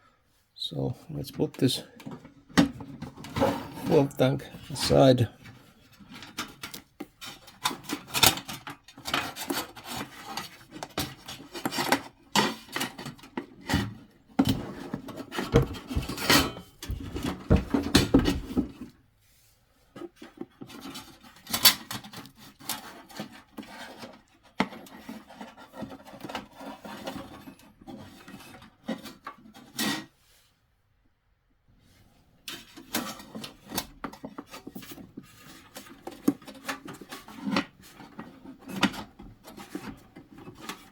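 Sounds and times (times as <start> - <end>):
plastic parts rubbing and knocking: 1.2 - 19.0, 19.9 - 30.2, 32.0 - 40.9.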